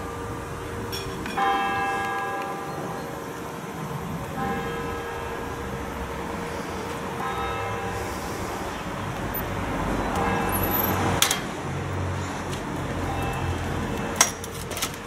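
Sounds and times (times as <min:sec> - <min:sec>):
church bells tolling: 0:00.0 - 0:11.2, 0:13.0 - 0:14.4
road traffic rumble: 0:00.0 - 0:15.0.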